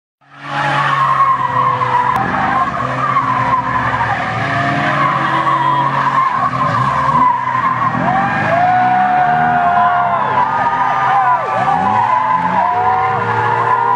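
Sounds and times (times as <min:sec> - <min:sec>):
car engine at high revs: 0:00.2 - 0:13.9
tyres squealing: 0:00.4 - 0:13.9.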